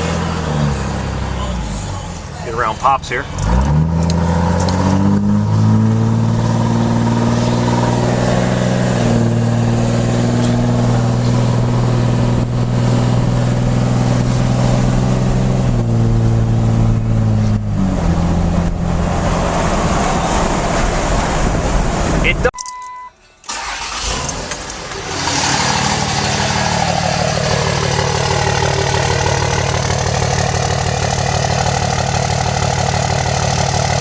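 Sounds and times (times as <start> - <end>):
diesel exhaust drone: 0.0 - 22.3, 23.4 - 34.0.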